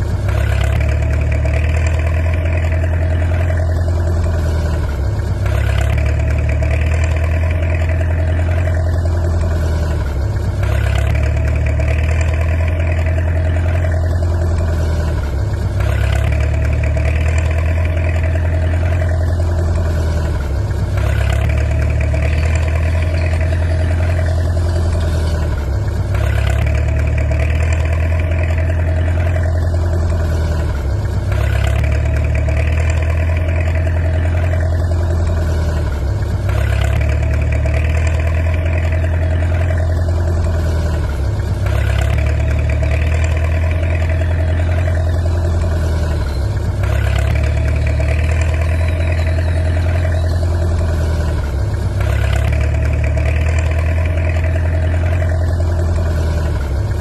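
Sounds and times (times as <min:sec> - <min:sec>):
engine idling drone: 0:00.0 - 0:57.0.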